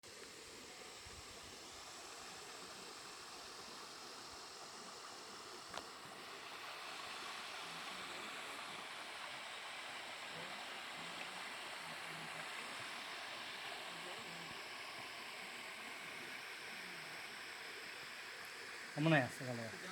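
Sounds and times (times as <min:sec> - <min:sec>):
waterfall rushing: 0:00.5 - 0:19.9.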